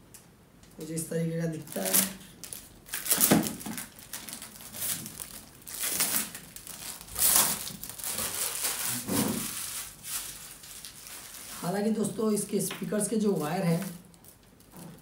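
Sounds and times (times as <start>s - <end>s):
plastic wrapping crinkling: 1.4s - 15.0s.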